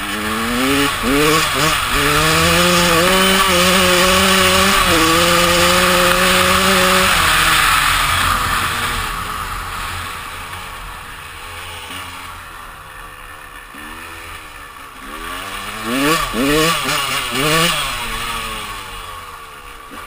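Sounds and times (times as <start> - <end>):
two-stroke engine revving high: 0.0 - 20.0.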